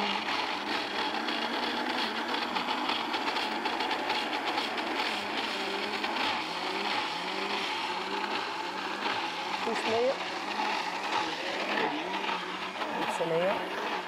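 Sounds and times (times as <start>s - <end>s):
electric blender running: 0.0s - 14.0s.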